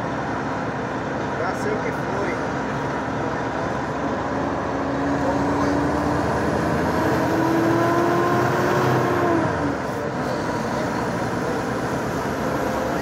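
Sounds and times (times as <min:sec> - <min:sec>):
coach engine and road noise: 0:00.0 - 0:13.0.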